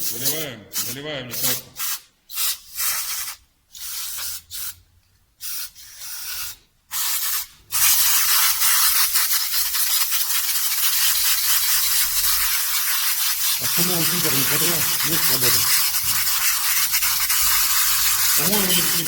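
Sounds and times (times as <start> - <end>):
pressurised spray hissing: 0.1 - 4.8, 5.4 - 19.0.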